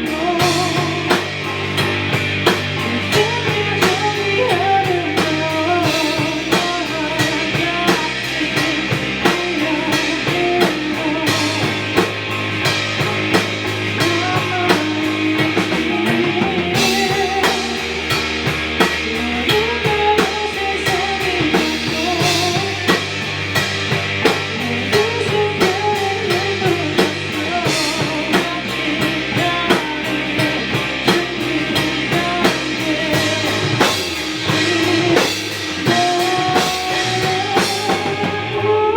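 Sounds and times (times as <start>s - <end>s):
drum kit with cymbals: 0.0s - 38.9s
rock band playing: 0.0s - 38.9s.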